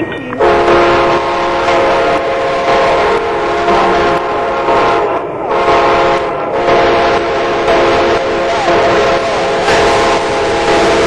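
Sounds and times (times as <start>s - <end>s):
moving train noise: 0.0s - 11.0s
train air horn blaring: 0.0s - 11.0s.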